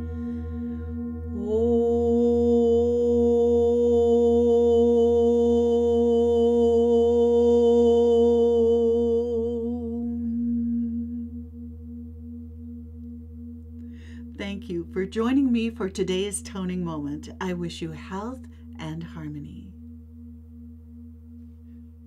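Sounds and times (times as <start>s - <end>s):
singing bowl ringing: 0.0s - 22.0s
woman toning om: 0.0s - 22.0s.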